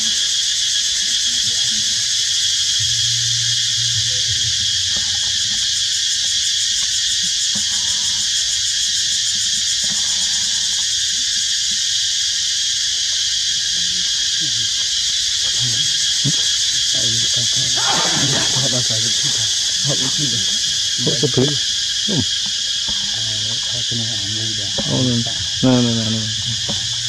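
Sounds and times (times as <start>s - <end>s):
forest insects droning: 0.0s - 27.0s.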